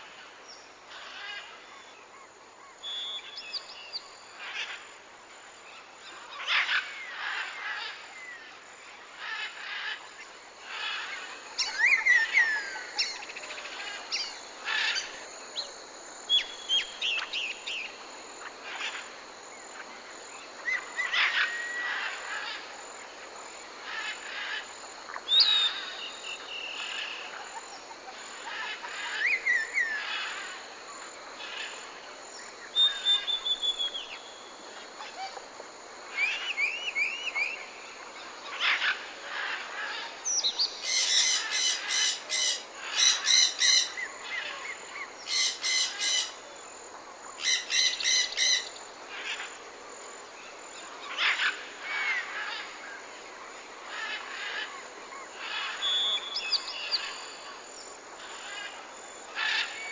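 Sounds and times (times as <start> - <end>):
forest birds calling: 0.0 - 4.8, 5.7 - 22.8, 23.7 - 35.4, 36.0 - 46.7, 47.3 - 49.6, 53.8 - 59.9
high insect hum: 0.0 - 59.9.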